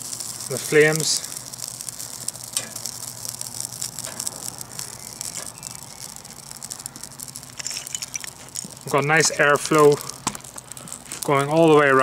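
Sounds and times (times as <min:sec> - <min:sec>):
tinder fire crackling: 0:00.0 - 0:12.0.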